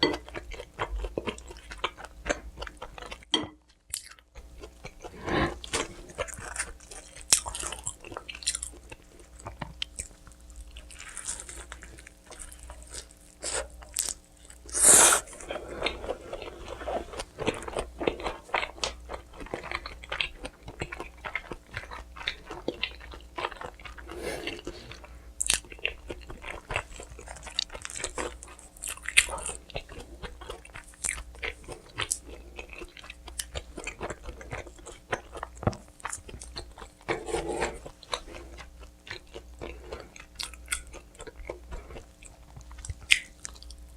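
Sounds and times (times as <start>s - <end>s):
wet chewing: 0.0s - 43.9s.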